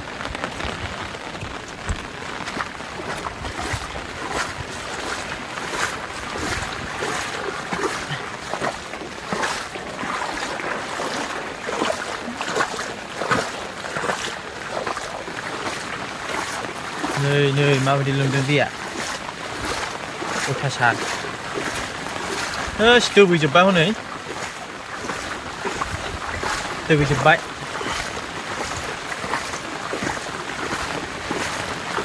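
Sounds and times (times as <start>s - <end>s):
floodwater rushing and splashing: 0.0s - 32.0s.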